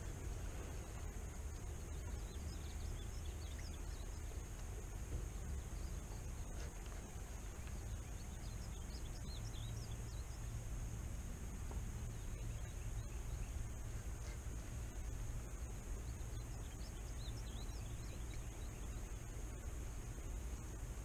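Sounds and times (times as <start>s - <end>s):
low steady rumble: 0.0s - 21.0s
small birds chirping: 0.0s - 21.0s.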